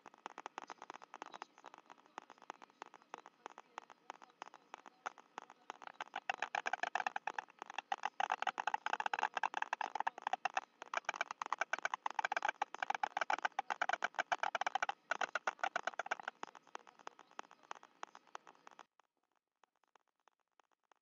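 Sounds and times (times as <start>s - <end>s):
storks clattering bills: 0.0s - 18.8s.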